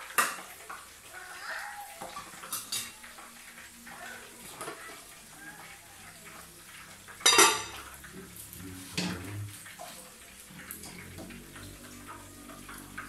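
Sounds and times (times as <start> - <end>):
utensils and dishes clattering: 0.0 - 13.0.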